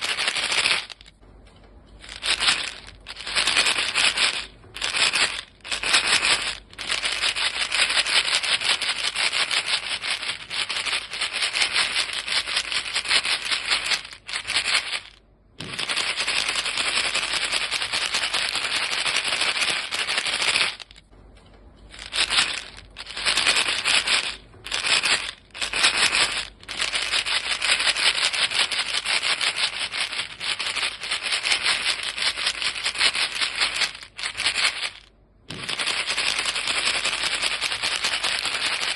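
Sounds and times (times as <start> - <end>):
gum pellets rattling in box: 0.0 - 1.2, 2.0 - 21.1, 21.9 - 38.9.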